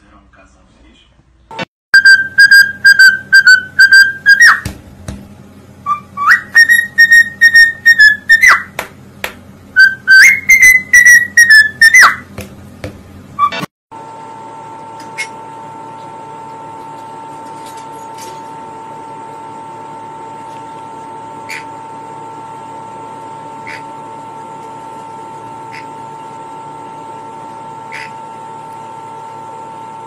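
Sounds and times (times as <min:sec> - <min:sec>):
mechanical hum with tone: 0:00.0 - 0:30.0.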